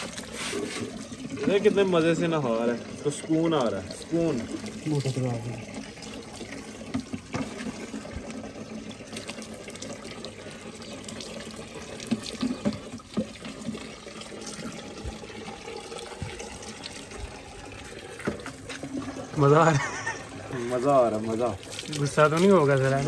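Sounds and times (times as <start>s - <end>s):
short water splashes: 0.0s - 23.0s
tap running into tub: 0.0s - 23.0s
water poured from mug: 0.0s - 23.0s.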